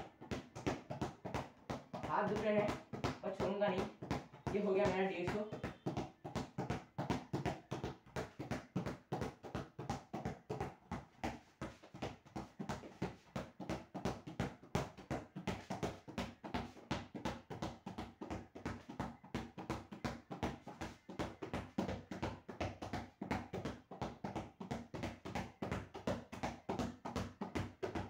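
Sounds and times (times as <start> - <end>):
ball bouncing on hard floor: 0.0 - 28.0.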